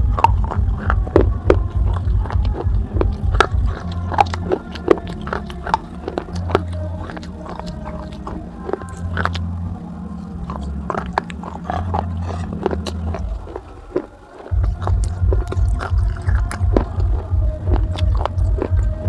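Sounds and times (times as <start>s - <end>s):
chewing brittle clay shards: 0.0s - 19.0s.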